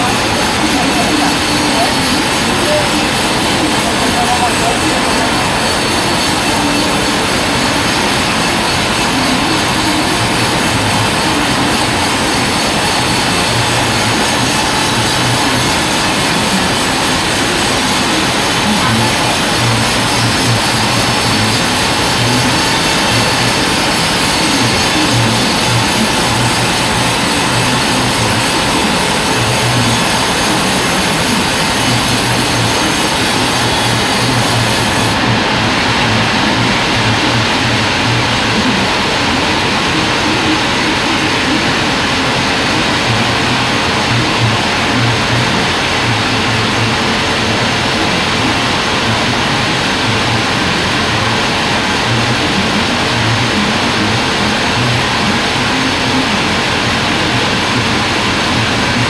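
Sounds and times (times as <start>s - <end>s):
band saw running: 0.0s - 59.0s.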